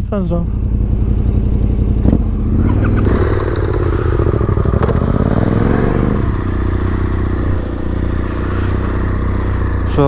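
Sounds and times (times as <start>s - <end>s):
motorcycle engine accelerating: 0.4s - 10.0s.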